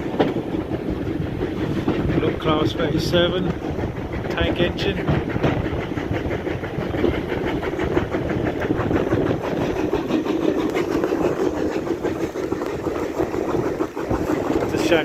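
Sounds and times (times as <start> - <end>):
train carriage rumble: 0.0 - 15.0
wheels clattering on rails: 0.0 - 15.0.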